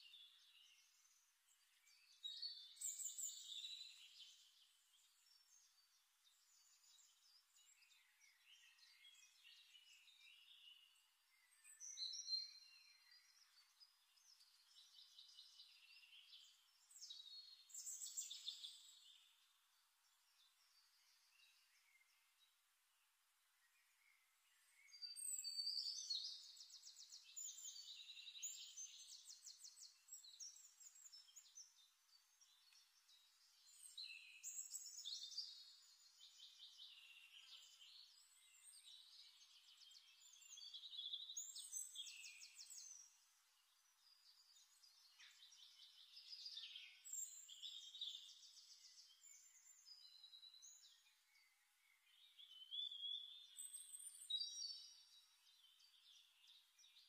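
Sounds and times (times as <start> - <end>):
faint birdsong trills: 0.0 - 57.0.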